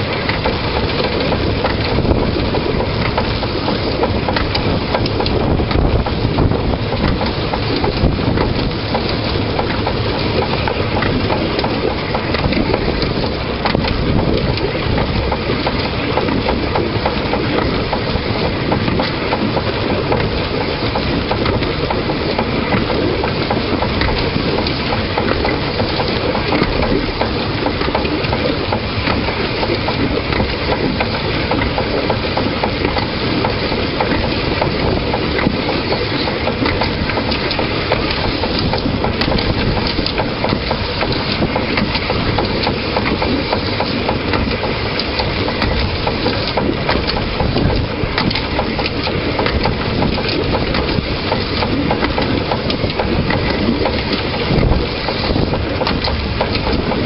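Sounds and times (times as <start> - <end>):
train running on track: 0.0 - 57.0.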